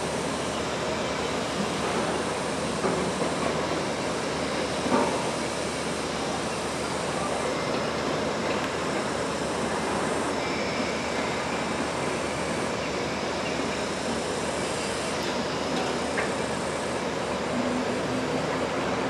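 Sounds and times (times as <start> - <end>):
locomotive running: 0.0 - 19.0.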